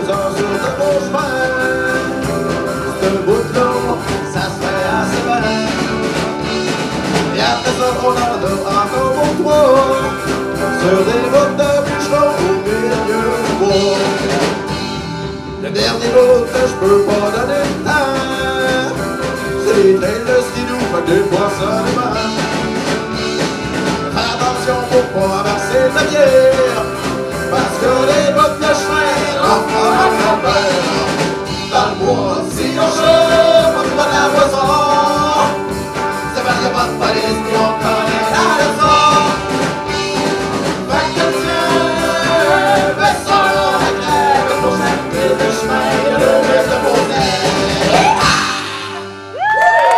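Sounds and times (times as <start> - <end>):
singers on microphones: 0.0 - 6.4, 7.2 - 14.8, 15.6 - 22.8, 24.0 - 39.9, 40.6 - 49.9
live rock band playing: 0.0 - 49.9.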